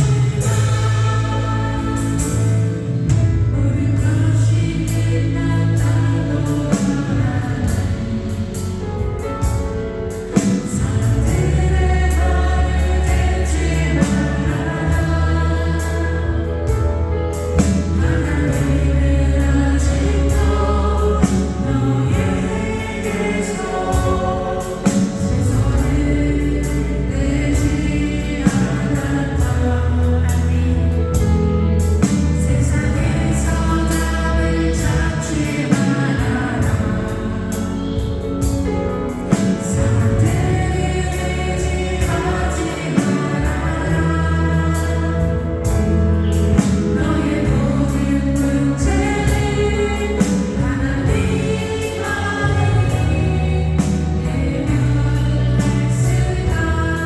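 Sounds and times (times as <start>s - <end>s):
choir singing over a band: 0.0s - 57.0s.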